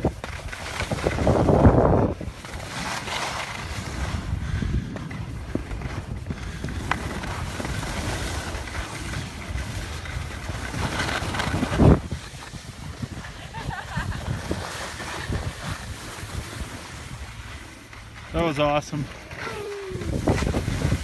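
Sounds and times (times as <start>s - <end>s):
wind buffeting microphone: 0.0s - 2.9s, 3.5s - 17.7s, 18.6s - 21.0s.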